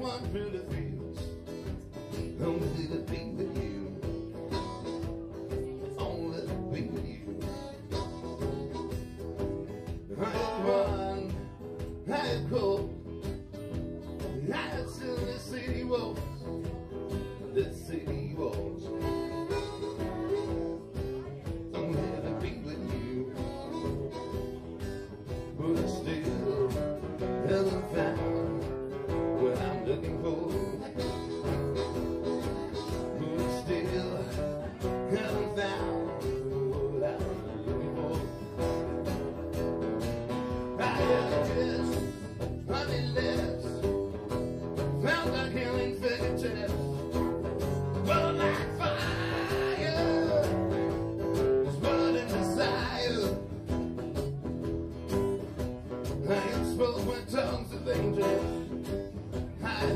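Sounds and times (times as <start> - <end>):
live blues band with guitar: 0.0 - 59.9.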